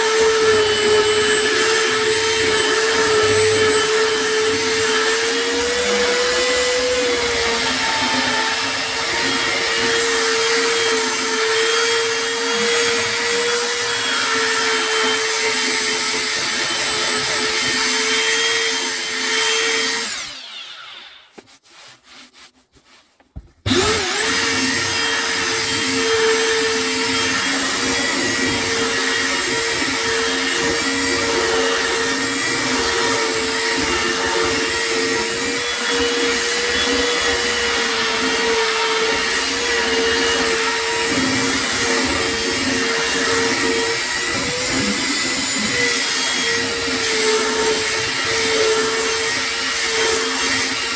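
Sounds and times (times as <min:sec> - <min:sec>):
power sander running: 0:00.0 - 0:21.3, 0:23.6 - 0:50.9.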